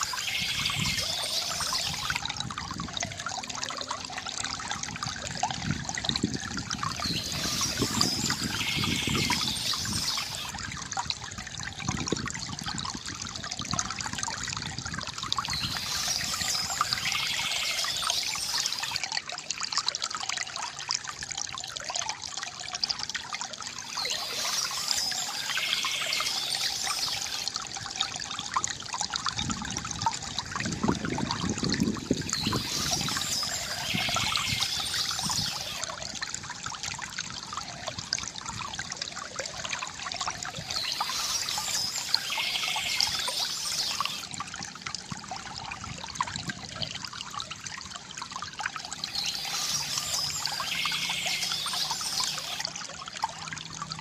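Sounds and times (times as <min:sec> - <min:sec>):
water gurgling from fountain: 0:00.0 - 0:54.0.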